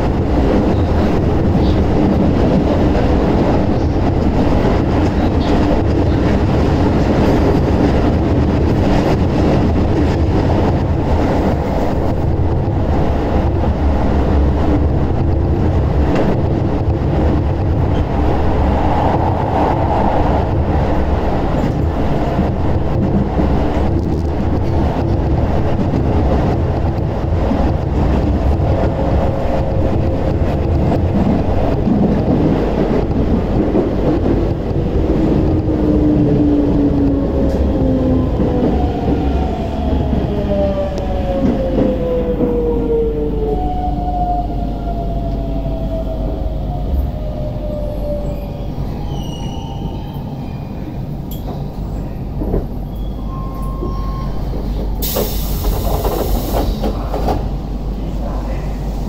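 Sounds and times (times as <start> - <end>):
train rumbling through tunnel: 0.0 - 59.0.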